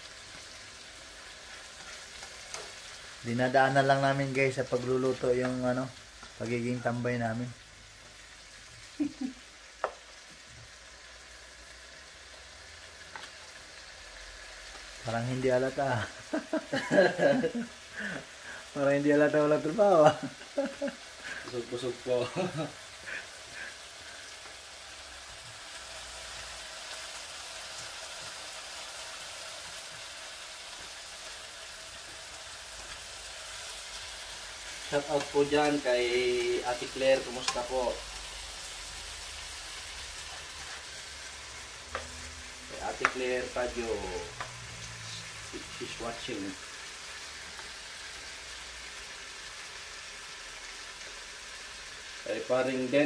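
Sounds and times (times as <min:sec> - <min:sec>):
vegetables sizzling in oil: 0:00.0 - 0:53.0.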